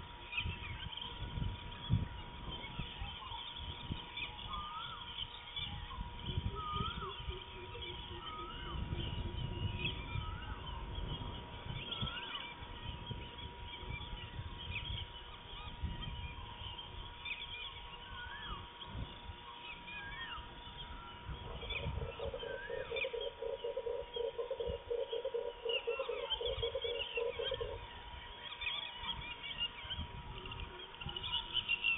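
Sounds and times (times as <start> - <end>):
bird chirps: 0.0 - 31.9
fast low pulsing animal call: 5.6 - 31.9.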